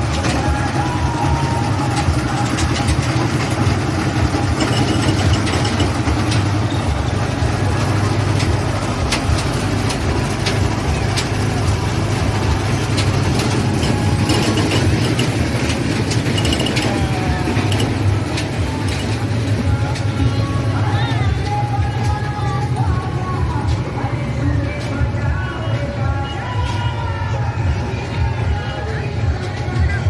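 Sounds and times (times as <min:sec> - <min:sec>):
toy train engine rumble: 0:00.0 - 0:27.6.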